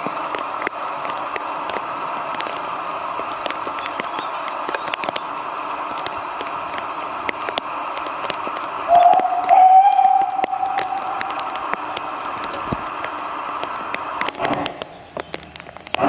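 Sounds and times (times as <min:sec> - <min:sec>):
steam hissing: 0:00.0 - 0:15.2
sharp crackling clicks: 0:00.0 - 0:16.0.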